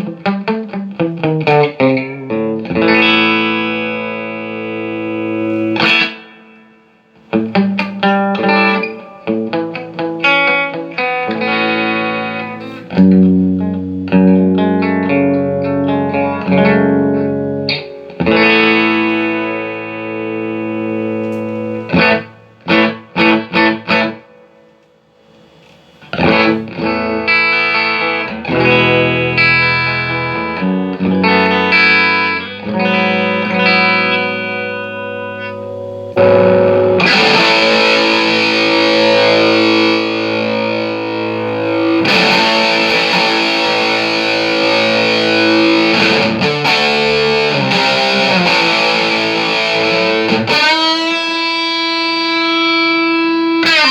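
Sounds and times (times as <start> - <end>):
electric guitar chords: 0.0 - 53.9.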